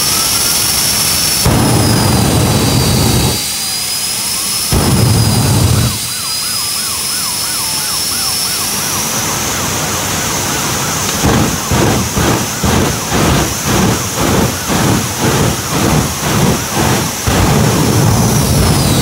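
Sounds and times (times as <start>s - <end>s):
loud flame blasts: 0.0s - 7.4s, 10.1s - 19.0s
jet engine whine: 0.0s - 19.0s
sweeping siren tone: 0.0s - 19.0s.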